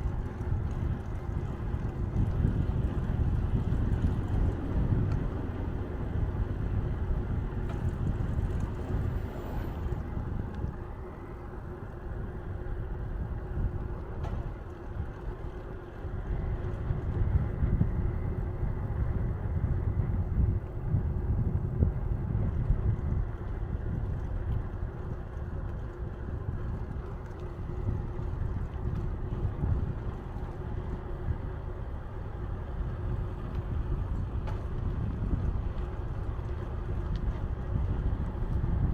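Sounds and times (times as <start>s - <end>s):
faint steady hum: 0.0s - 38.9s
wind buffeting microphone: 0.0s - 38.9s.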